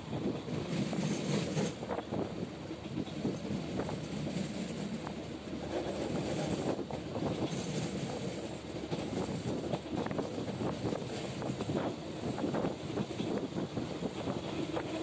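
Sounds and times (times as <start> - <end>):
train wheels rumbling on rail: 0.0 - 15.0
clicks and clatter of track: 0.2 - 2.2, 2.8 - 15.0.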